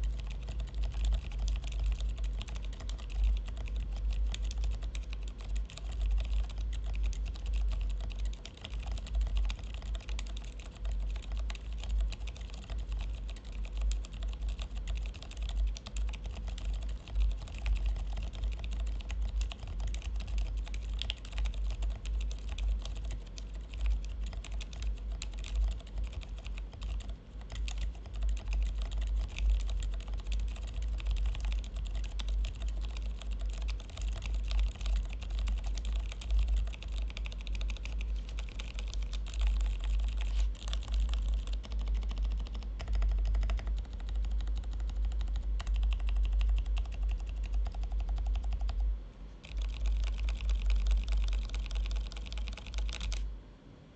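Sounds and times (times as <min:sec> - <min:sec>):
typing on mechanical keyboard: 0:00.0 - 0:53.3.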